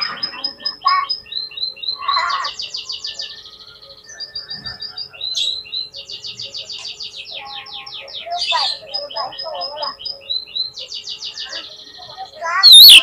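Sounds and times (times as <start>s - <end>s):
bird singing rapid trills: 0.0s - 13.0s.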